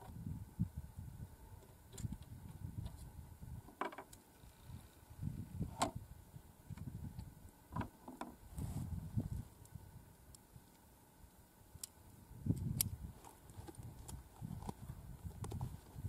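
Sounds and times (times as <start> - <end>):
wind rumbling on microphone: 0.0 - 3.7, 4.4 - 10.7, 12.0 - 16.0.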